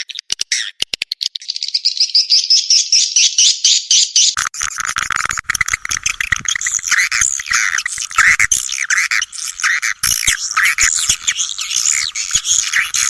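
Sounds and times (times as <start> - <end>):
rapid high bird chirps: 0.0 - 4.4, 5.5 - 13.0.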